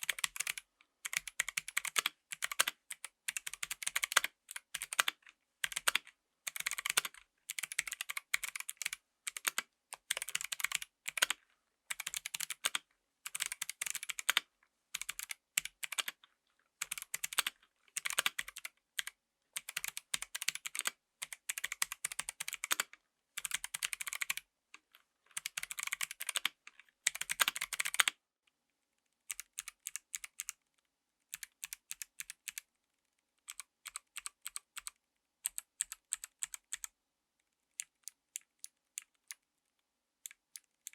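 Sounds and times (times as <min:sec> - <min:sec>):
mechanical keyboard typing: 0:00.0 - 0:16.2, 0:16.8 - 0:24.4, 0:25.4 - 0:28.2, 0:29.3 - 0:30.6, 0:31.3 - 0:32.7, 0:33.4 - 0:36.9, 0:40.3 - 0:40.9.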